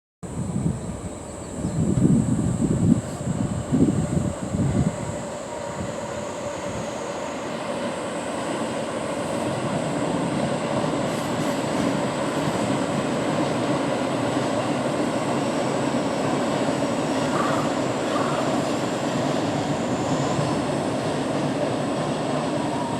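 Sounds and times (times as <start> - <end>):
train rumbling: 0.2 - 22.9.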